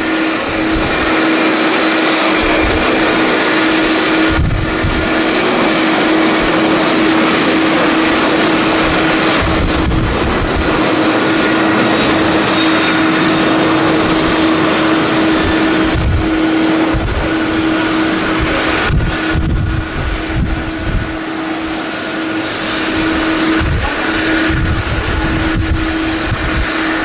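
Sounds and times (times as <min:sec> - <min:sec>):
jet engines roaring: 0:00.0 - 0:27.0
steady hum: 0:00.0 - 0:27.0
wind buffeting microphone: 0:00.0 - 0:27.0.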